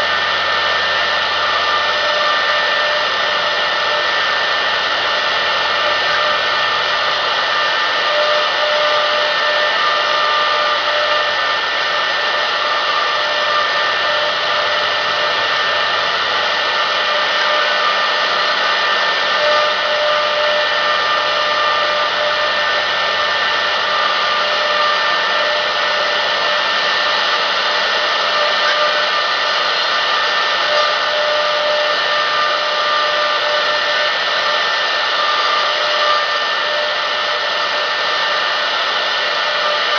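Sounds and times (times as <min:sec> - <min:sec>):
bit cutting wood: 0:00.0 - 0:39.9
router spindle whine: 0:00.0 - 0:39.9.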